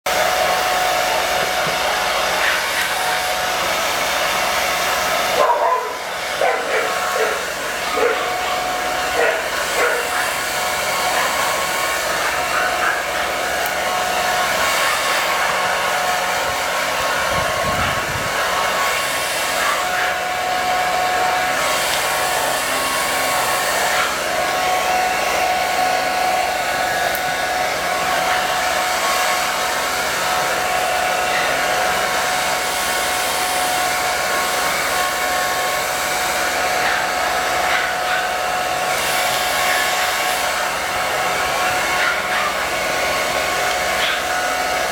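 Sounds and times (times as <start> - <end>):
hair dryer blowing: 0.0 - 44.9.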